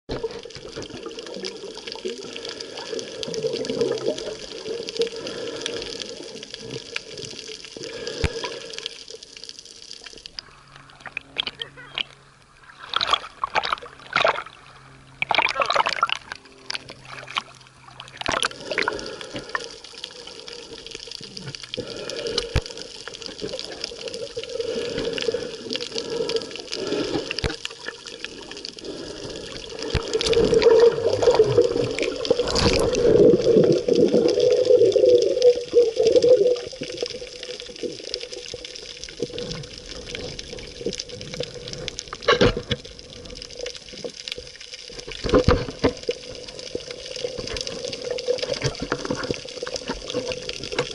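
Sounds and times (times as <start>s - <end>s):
muffled underwater sloshing: 0.1s - 50.9s
small waves splashing: 10.0s - 50.9s.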